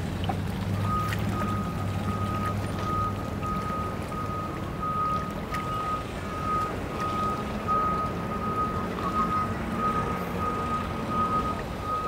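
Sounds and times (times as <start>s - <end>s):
reversing alarm beeping: 0.8s - 12.0s.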